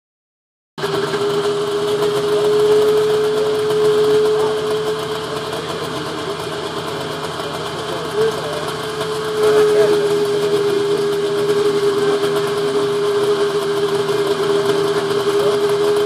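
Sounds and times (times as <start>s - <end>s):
snowmobile engine idling: 0.8s - 16.0s.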